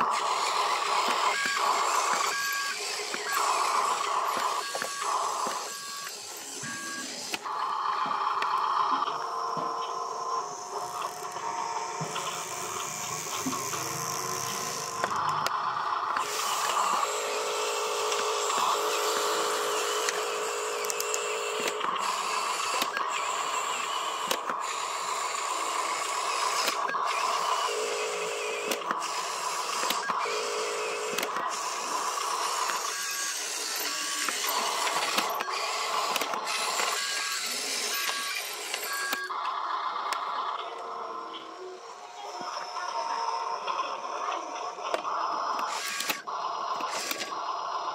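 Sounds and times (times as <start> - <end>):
toy truck electric motors whining: 0.0 - 47.9.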